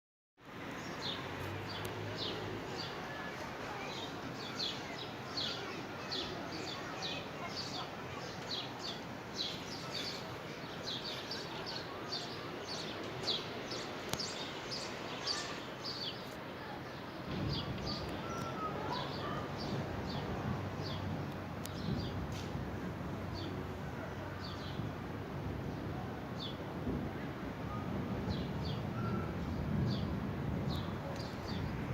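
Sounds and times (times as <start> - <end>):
outdoor background noise: 0.4 - 31.9.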